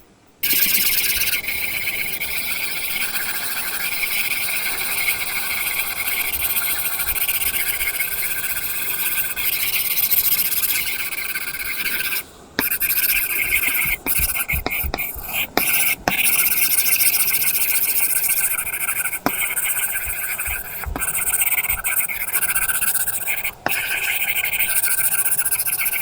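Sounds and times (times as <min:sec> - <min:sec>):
stylus scratching on screen: 0:00.4 - 0:26.0.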